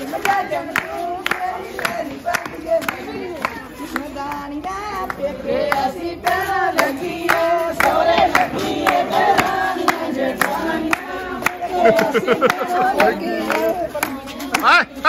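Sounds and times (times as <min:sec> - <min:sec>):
hands clapping in time: 0:00.0 - 0:14.9
women singing together: 0:00.0 - 0:15.0.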